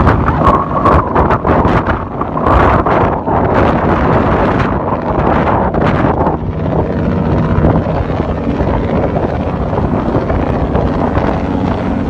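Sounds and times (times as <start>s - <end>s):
low engine rumble: 0.0s - 12.0s
wind buffeting microphone: 0.0s - 12.0s.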